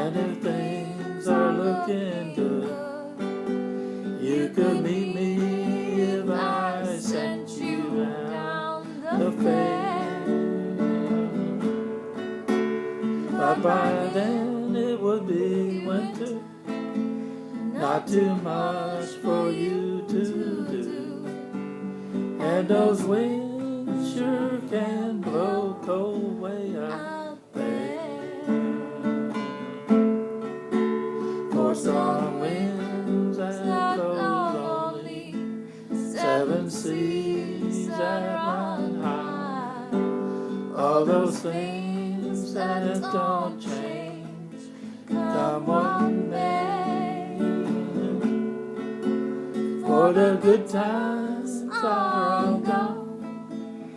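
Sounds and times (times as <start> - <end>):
person singing: 0.0 - 11.7, 13.0 - 16.7, 17.4 - 29.9, 31.1 - 48.8, 49.5 - 53.9
acoustic guitar strumming: 0.0 - 53.9.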